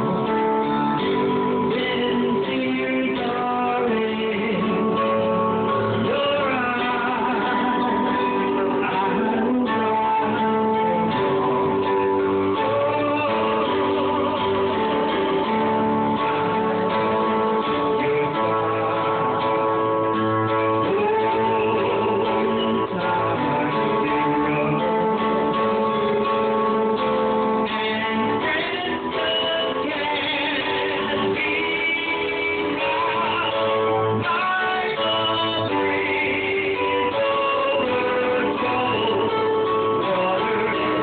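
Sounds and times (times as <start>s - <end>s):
guitar backing music: 0.0s - 41.0s
man singing into a microphone: 0.0s - 41.0s.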